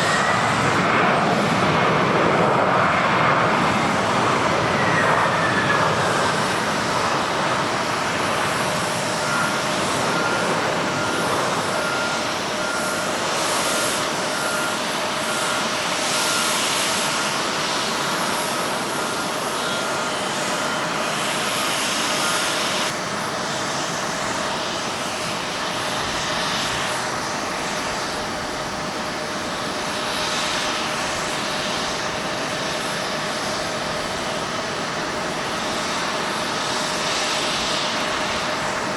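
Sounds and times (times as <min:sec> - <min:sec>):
jet engines roaring with whine: 0:00.0 - 0:38.9.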